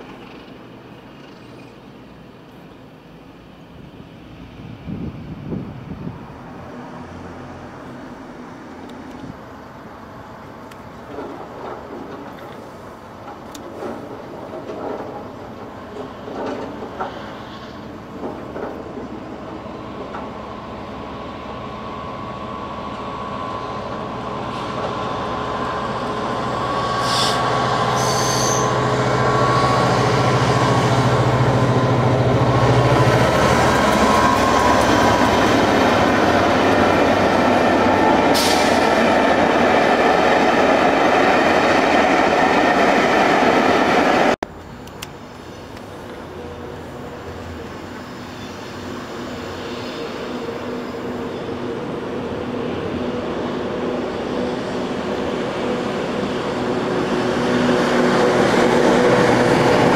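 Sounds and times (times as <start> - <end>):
diesel locomotive engine: 0.0 - 59.9
train wheels rumbling on rails: 0.0 - 59.9.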